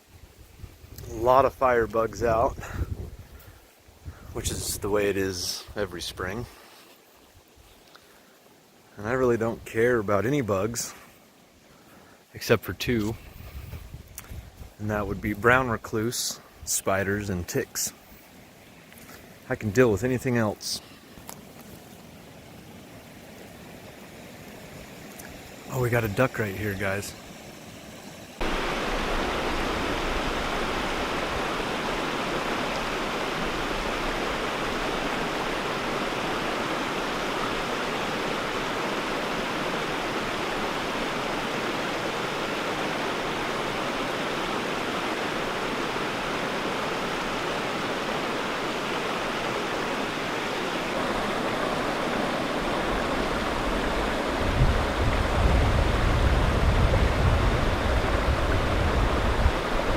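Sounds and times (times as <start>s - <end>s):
flowing creek water: 0.0s - 59.9s.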